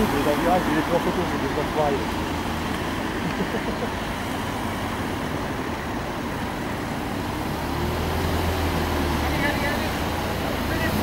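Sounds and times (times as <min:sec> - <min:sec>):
cars driving past: 0:00.0 - 0:11.0.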